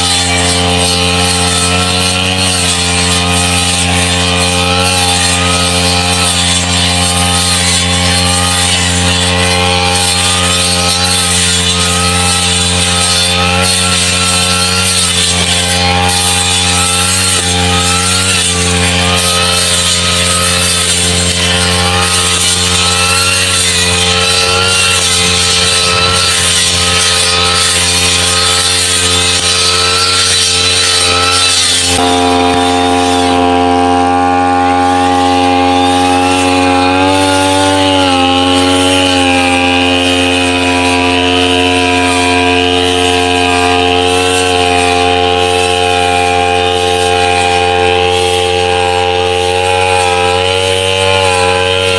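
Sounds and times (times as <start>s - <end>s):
brush cutter engine cutting grass: 0.0s - 51.9s.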